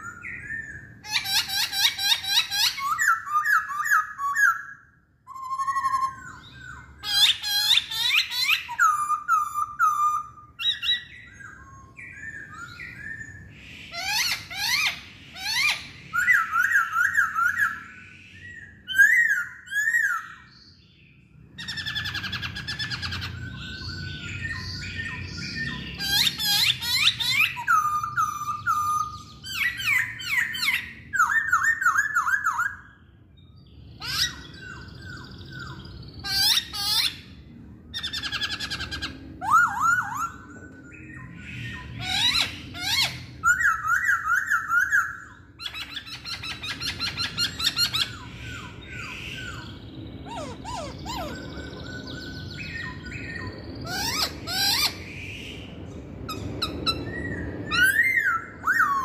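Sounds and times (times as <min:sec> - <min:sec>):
bird singing whistled song: 0:00.0 - 0:59.0.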